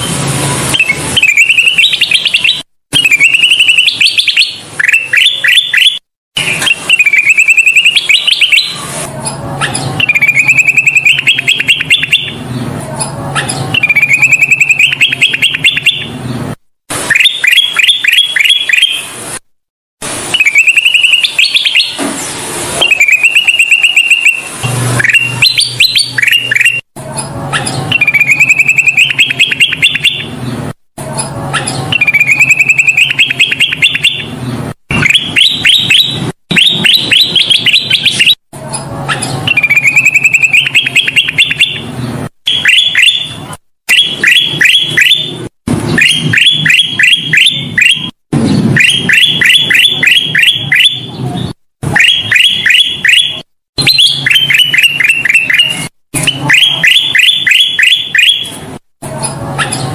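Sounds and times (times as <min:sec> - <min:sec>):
bird singing trills and high notes: 0:00.0 - 0:16.4, 0:17.1 - 0:19.1, 0:20.3 - 0:22.0, 0:22.8 - 0:48.2, 0:48.8 - 0:51.2, 0:52.0 - 0:58.6.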